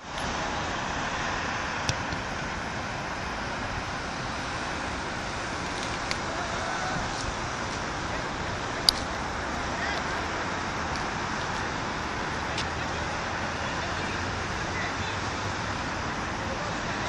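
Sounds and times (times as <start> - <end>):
distant road traffic hiss: 0.0 - 17.0.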